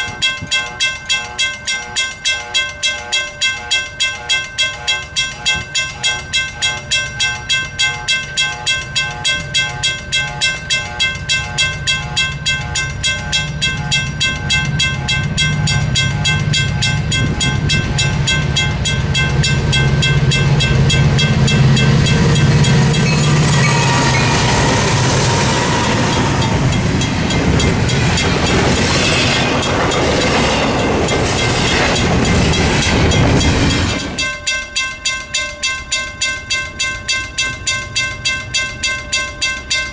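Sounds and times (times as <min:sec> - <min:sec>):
diesel train passing: 0:00.0 - 0:39.9
railroad crossing bell dinging: 0:00.0 - 0:39.9
train wheels on rails: 0:00.0 - 0:39.9.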